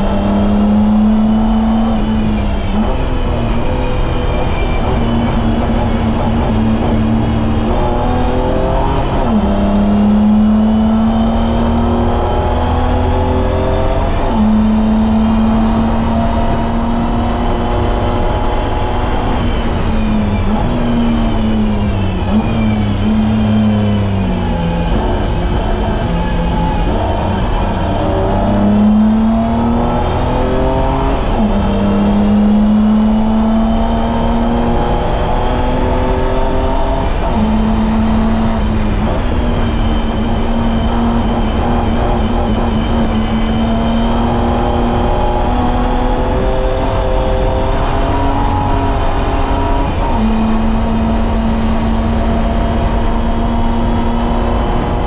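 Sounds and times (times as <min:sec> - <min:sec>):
car engine revving: 0:00.0 - 0:55.0
low road rumble: 0:00.0 - 0:55.0.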